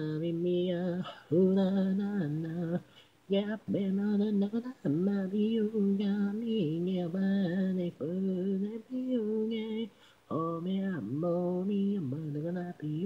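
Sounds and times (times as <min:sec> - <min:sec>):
woman singing a cappella: 0:00.0 - 0:13.0.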